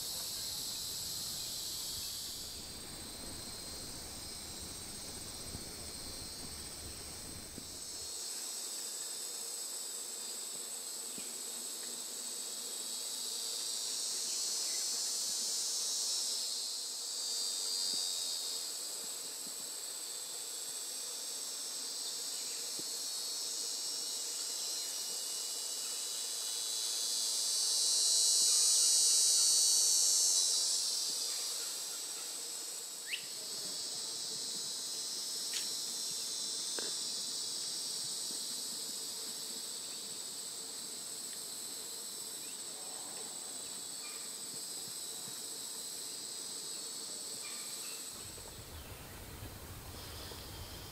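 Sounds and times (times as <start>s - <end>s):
insect chorus drone: 0.0s - 50.9s.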